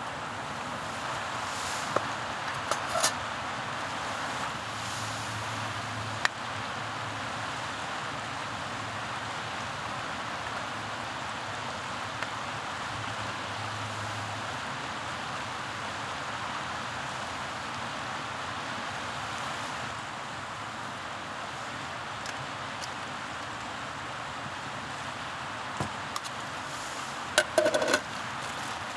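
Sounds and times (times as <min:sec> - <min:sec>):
river rushing over rocks: 0:00.0 - 0:28.9.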